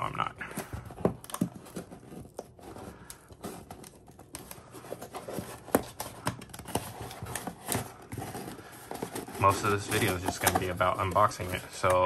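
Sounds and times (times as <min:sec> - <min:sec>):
cardboard tearing and crinkling: 0:00.0 - 0:12.0.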